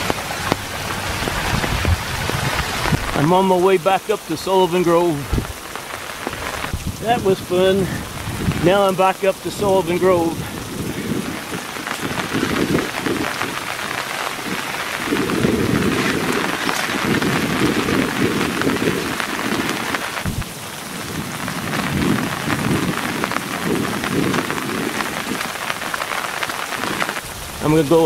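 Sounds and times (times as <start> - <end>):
distant thunder rumbling: 0.0 - 27.7
steady rain falling: 0.0 - 28.0.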